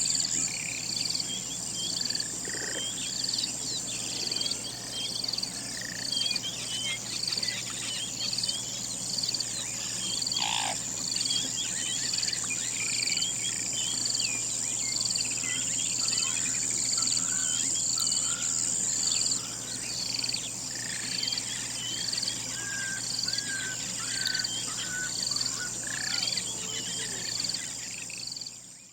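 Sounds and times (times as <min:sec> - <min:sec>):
high insect drone: 0:00.0 - 0:28.9.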